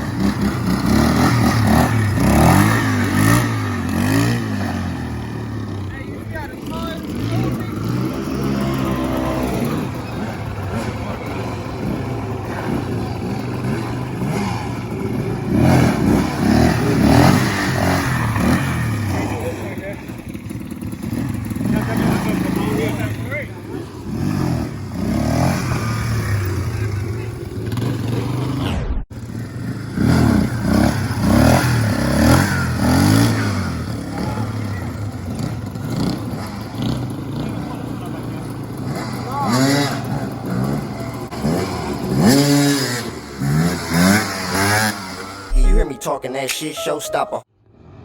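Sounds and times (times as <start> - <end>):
motorbike engine revving: 0.0 - 45.6.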